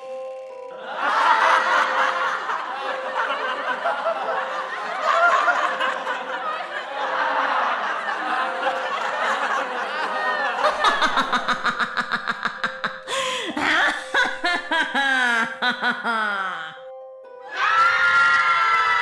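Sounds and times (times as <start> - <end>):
teenagers laughing: 0.8 - 16.8.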